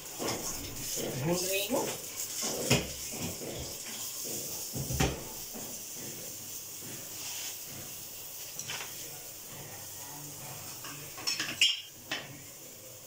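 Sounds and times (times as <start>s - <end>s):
wooden spatula stirring and knocking: 0.0s - 12.5s
cashews sizzling in a pan: 0.0s - 13.0s.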